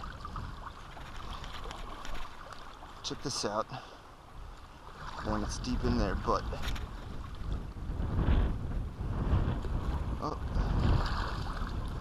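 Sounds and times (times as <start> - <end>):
wind buffeting microphone: 0.0 - 3.4, 4.3 - 12.0
water sloshing in shallows: 0.0 - 7.8, 9.6 - 12.0.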